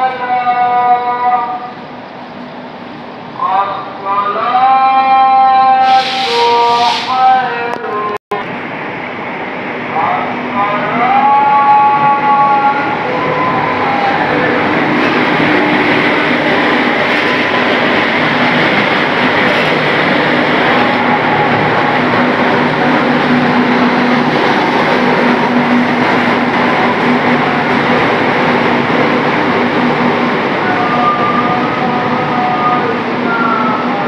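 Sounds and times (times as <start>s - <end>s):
train wheels rumbling on rails: 5.4s - 34.0s.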